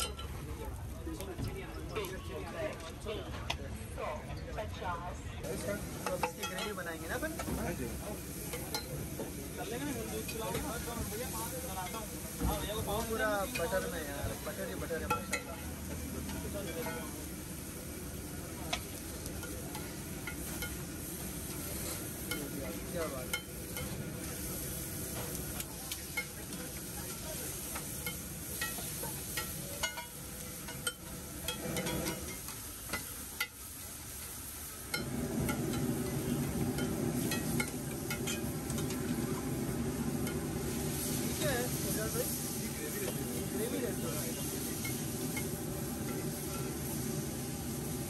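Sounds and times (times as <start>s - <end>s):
gravy sizzling in butter: 5.4s - 48.0s.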